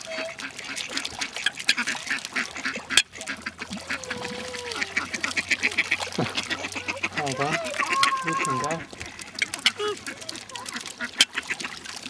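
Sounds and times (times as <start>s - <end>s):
flock of waterbirds quacking: 0.0s - 12.0s.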